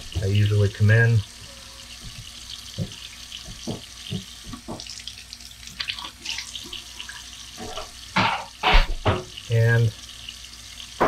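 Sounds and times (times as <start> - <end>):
faucet stream into sink: 0.0 - 11.0.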